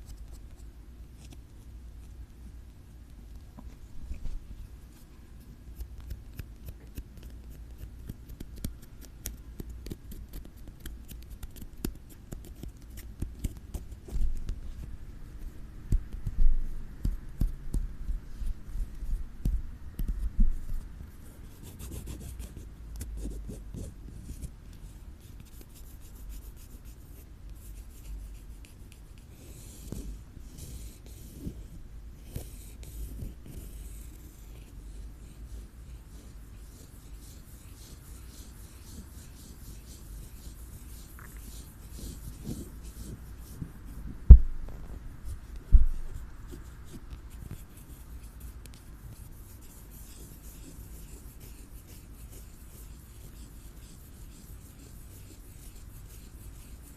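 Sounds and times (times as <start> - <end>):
scratching on an object: 5.7 - 56.9.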